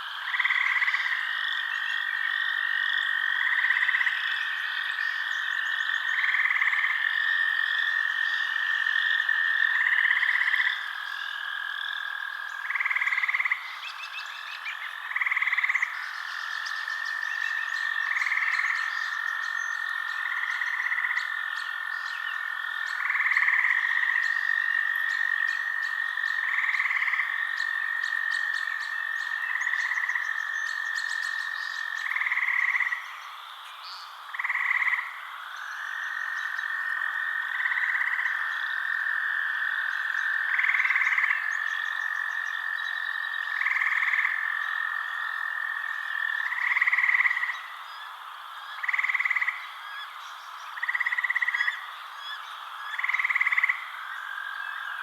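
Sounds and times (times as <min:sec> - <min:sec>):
frog calls: 0:00.0 - 0:55.0
frogs trilling: 0:00.0 - 0:55.0.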